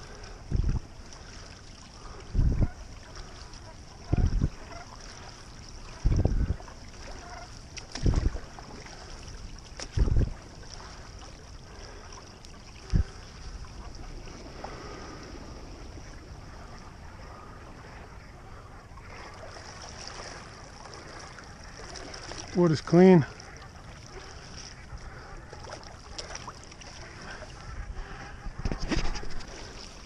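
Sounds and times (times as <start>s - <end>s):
water washing: 0.0s - 28.5s.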